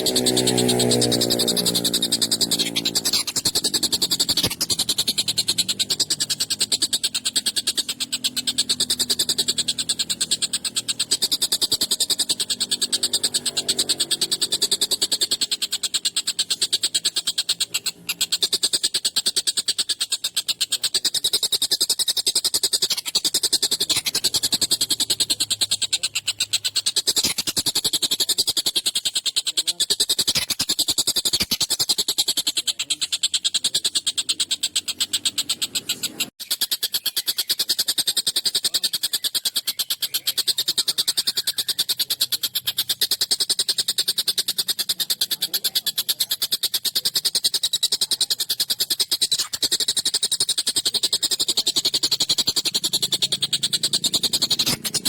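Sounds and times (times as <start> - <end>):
kingfisher rattling chatter: 0.0 - 55.0.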